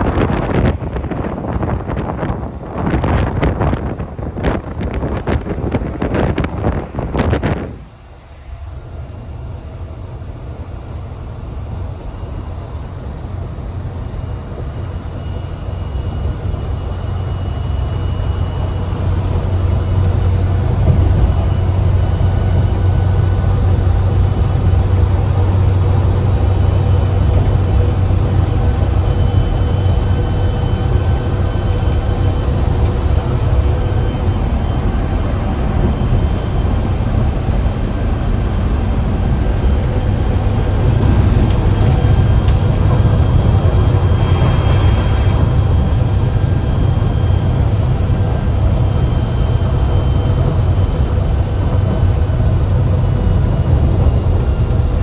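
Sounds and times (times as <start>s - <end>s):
bus diesel engine drone: 0.0s - 55.0s.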